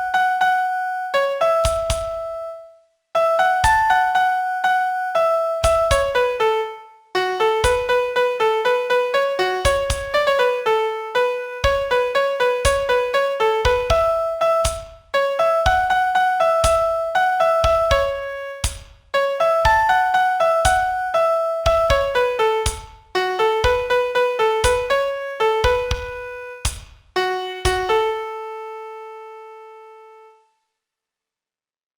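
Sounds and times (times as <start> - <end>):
solo piano melody: 0.0 - 30.4.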